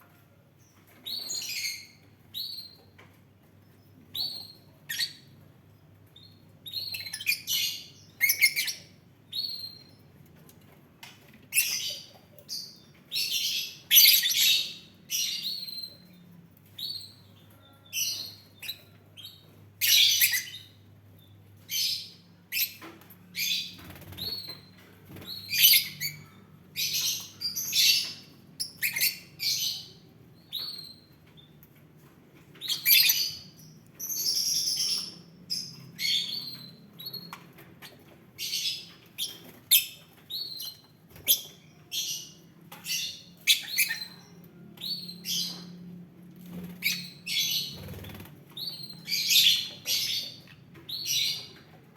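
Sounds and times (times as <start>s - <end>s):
lovebirds chirping and squawking: 0.6s - 10.2s, 11.0s - 51.9s.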